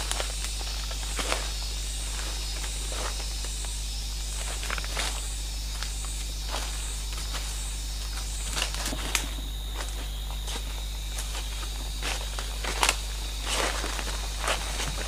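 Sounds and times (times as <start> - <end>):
bare feet crunching dry leaves: 0.0 - 15.0.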